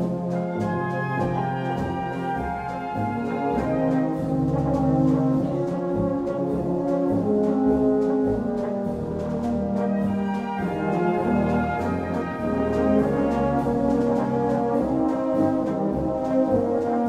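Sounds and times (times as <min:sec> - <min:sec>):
tuba bass line: 0:00.0 - 0:17.0
wind band playing a polka: 0:00.0 - 0:17.0.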